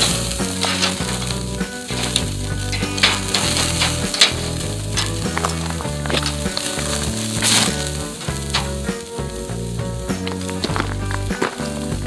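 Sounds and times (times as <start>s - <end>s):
steak sizzling on a grill: 0.0s - 12.0s.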